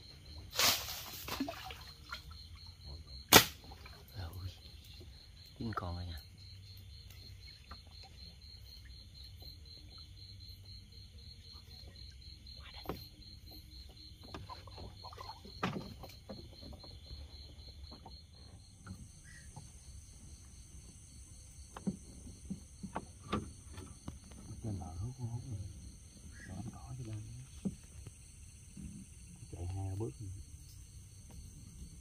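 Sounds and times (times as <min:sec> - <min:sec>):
insects chirping: 0:00.0 - 0:32.0.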